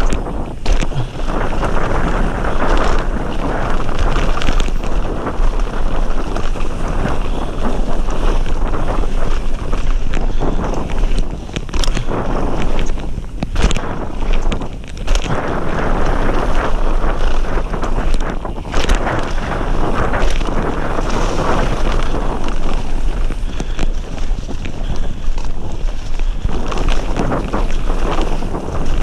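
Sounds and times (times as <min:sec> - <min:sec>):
bike knocking and rattling: 0:00.0 - 0:29.0
bike tyres rumbling on gravel: 0:00.0 - 0:29.0
wind buffeting microphone: 0:00.0 - 0:29.0.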